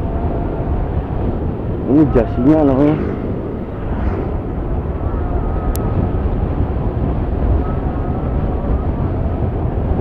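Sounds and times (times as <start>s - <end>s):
faint high whine: 0.0s - 8.9s
motorcycle engine drone: 0.0s - 10.0s
rushing wind noise: 0.0s - 10.0s.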